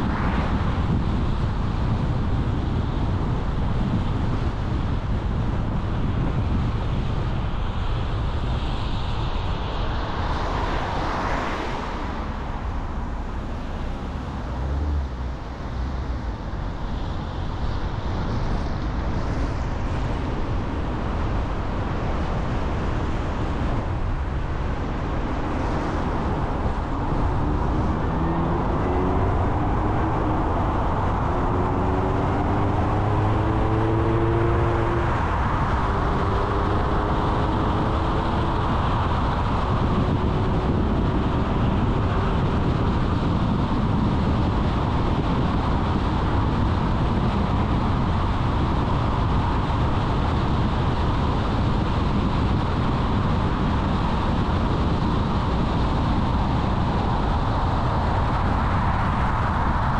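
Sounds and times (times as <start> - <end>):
car road and tyre noise: 0.0 - 59.9.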